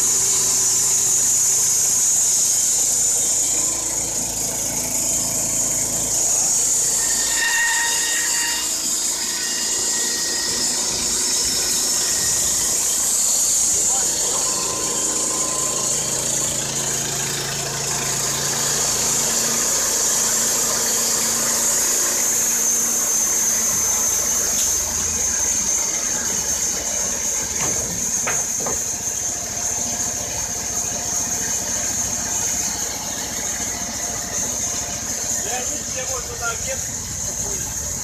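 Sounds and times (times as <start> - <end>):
petrol engine under load: 0.0 - 7.3, 7.9 - 38.0
band saw blade whine: 0.0 - 38.0.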